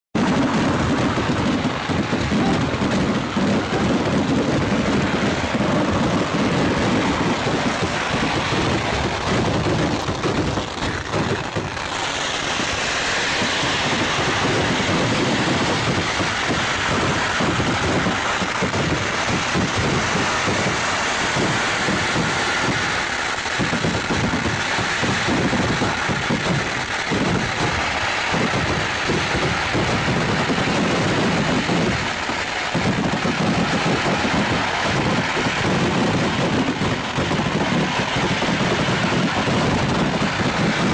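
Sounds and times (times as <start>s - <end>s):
firecrackers bursting: 0.2s - 40.9s.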